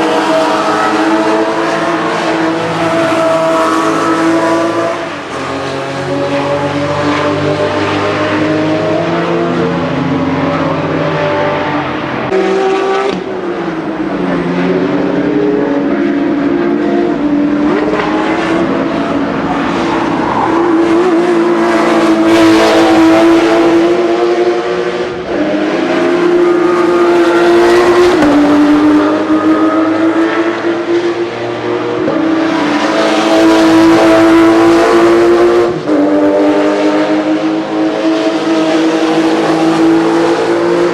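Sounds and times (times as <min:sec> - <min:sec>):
sports car engine accelerating: 0:00.0 - 0:40.9.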